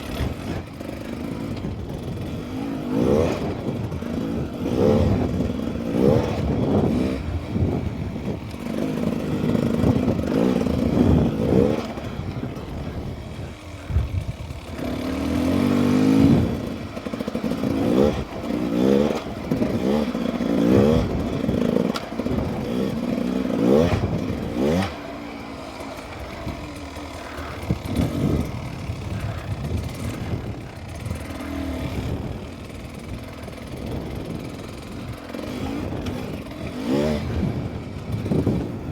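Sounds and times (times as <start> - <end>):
dirt bike engine revving: 0.0 - 38.9
engine clatter: 0.0 - 38.9.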